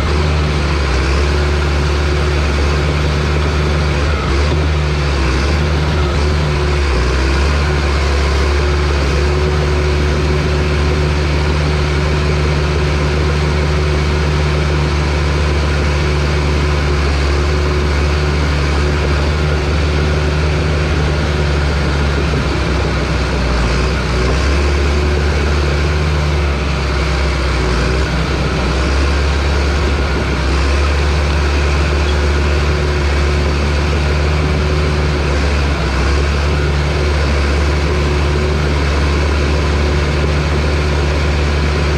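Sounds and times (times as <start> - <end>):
bulldozer diesel engine droning: 0.0 - 41.9.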